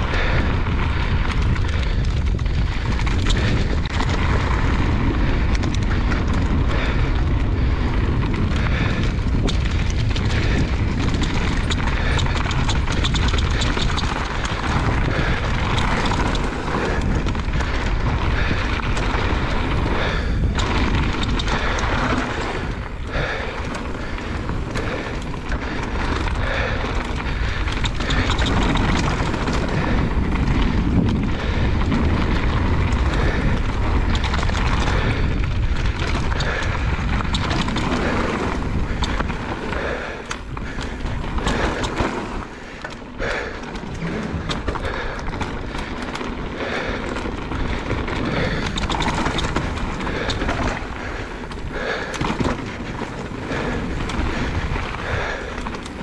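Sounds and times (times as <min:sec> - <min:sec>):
bike rattling over dirt trail: 0:00.0 - 0:56.0
wind buffeting microphone: 0:00.0 - 0:56.0.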